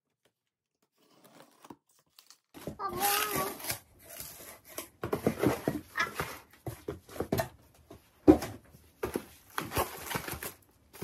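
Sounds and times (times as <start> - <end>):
cardboard rustling and scraping: 0.8 - 11.0.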